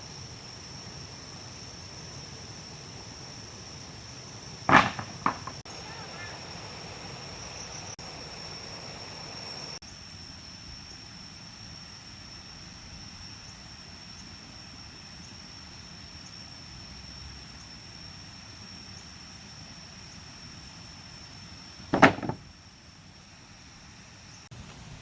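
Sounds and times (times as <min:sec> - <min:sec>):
insects high-pitched drone: 0:00.0 - 0:21.8.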